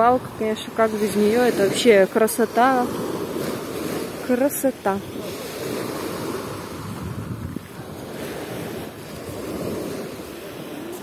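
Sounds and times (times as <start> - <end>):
small waves washing up beach: 0.0 - 11.0
wind gusting on microphone: 0.0 - 11.0.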